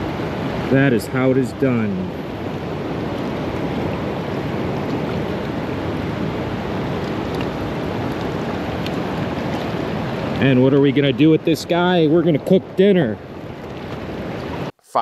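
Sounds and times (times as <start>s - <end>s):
fast-flowing creek rushing: 0.0s - 14.7s.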